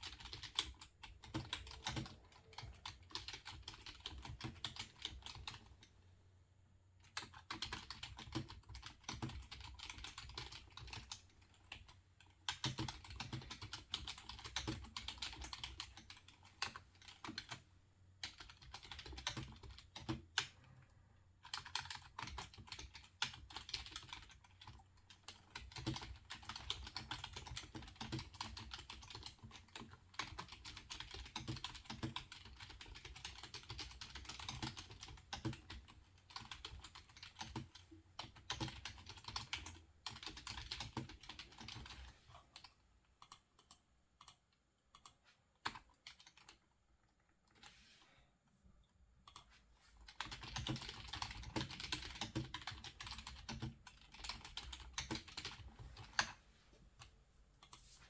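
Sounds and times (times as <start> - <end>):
typing on computer keyboard: 0.0 - 5.9, 7.0 - 20.8, 21.4 - 47.7, 50.1 - 56.4.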